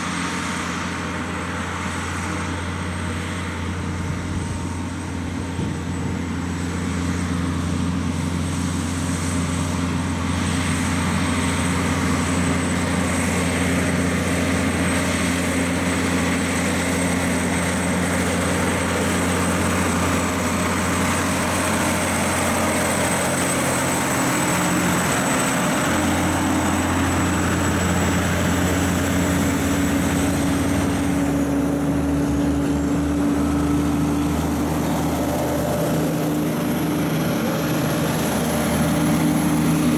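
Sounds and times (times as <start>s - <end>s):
diesel truck engines pulling: 0.0s - 39.9s.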